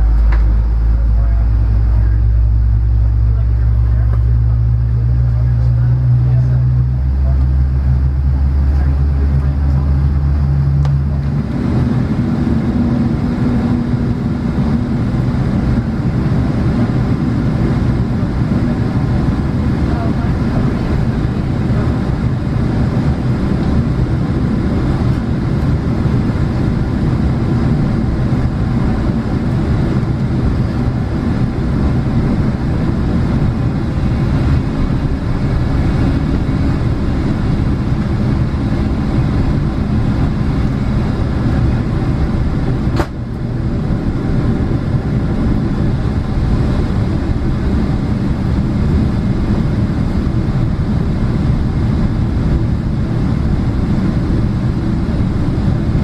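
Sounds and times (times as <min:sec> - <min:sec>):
airliner cabin low hum: 0:00.0 - 0:56.0
airliner rumble taxiing: 0:00.0 - 0:56.0.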